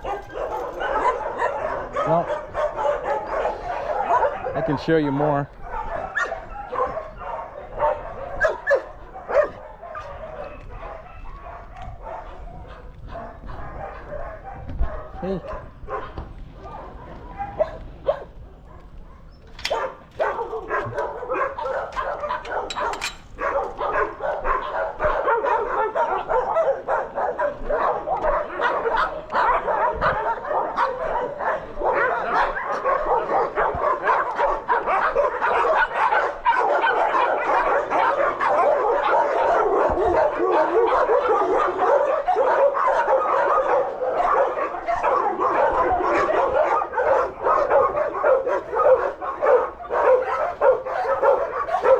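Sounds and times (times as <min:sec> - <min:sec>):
dogs barking and whining: 0:00.0 - 0:51.9.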